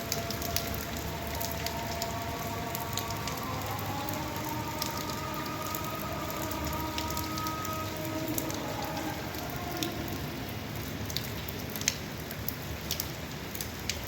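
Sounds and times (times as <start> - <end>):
raindrops ticking on a surface: 0.0 - 14.0
steady rain hissing: 0.0 - 14.0.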